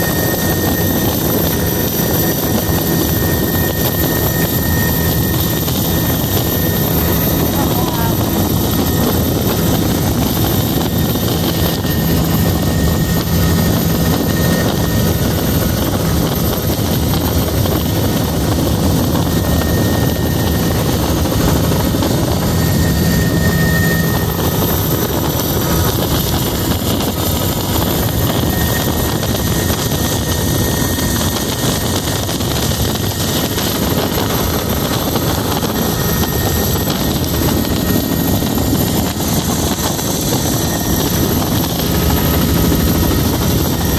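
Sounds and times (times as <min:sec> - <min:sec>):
helicopter engine and rotor drone: 0:00.0 - 0:43.9.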